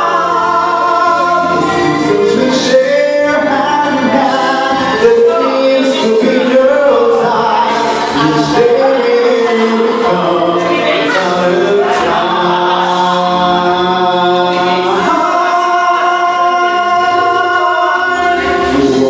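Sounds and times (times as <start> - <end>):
backing music: 0.0 - 19.0
man singing into microphone: 0.0 - 19.0.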